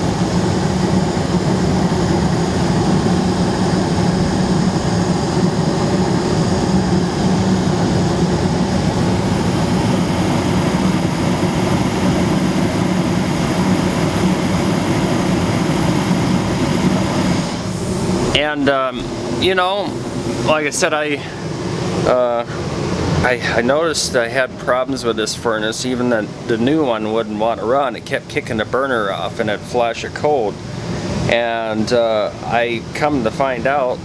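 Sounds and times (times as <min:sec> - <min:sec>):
furnace hum: 0:00.0 - 0:34.0
gas furnace fan droning: 0:00.0 - 0:34.0.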